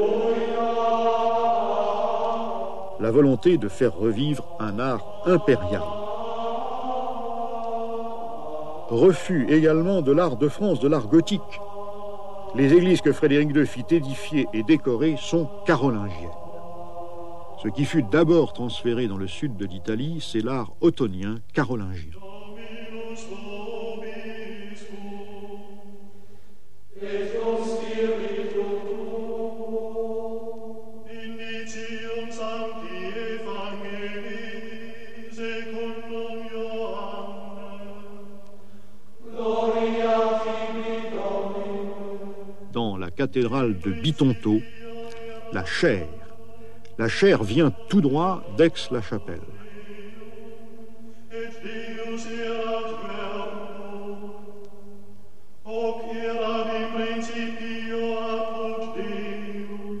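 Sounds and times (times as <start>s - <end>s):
voices chanting in long held notes: 0.0s - 20.6s, 21.8s - 60.0s.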